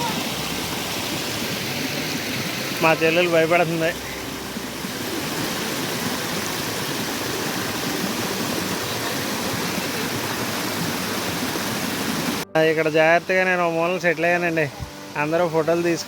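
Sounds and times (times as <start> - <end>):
waterfall roaring over rocks: 0.0 - 16.0.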